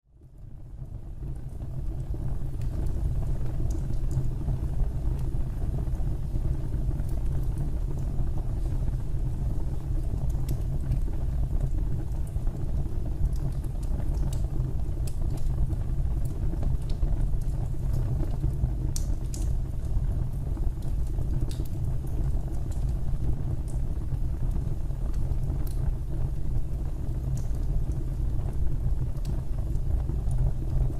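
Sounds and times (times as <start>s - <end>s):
fireplace fire burning: 0.1s - 30.9s.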